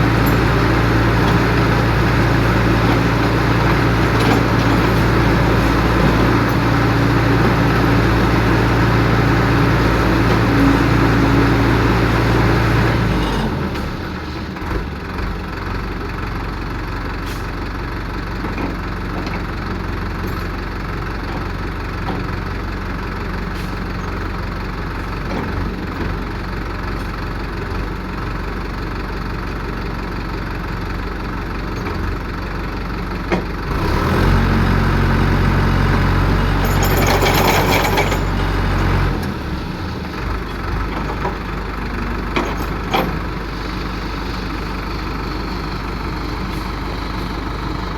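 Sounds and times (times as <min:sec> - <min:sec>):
diesel engine running hard: 0:00.0 - 0:47.9.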